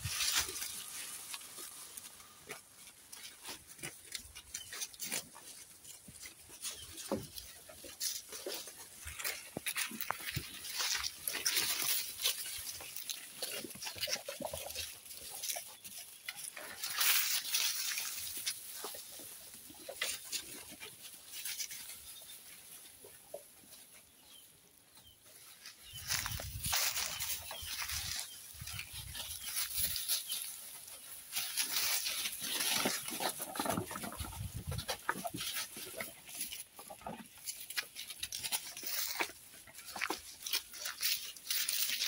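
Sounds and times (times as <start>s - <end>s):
goats chewing rustling leaves: 0.0s - 42.0s.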